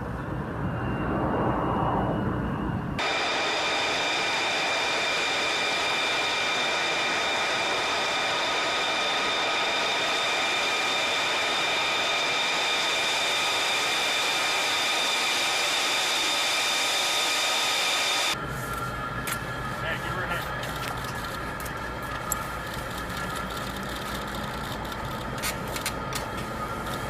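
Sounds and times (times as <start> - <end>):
jet engine whine: 0.0 - 27.0.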